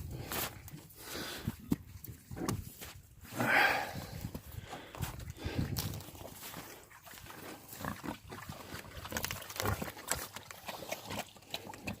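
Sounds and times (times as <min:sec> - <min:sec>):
hooves crunching in snow: 0:00.0 - 0:11.7.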